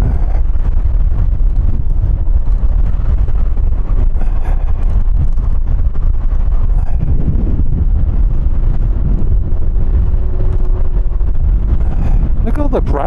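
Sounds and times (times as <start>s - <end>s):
scooter engine running: 0.0s - 13.0s
wind rumbling on microphone: 0.0s - 13.0s.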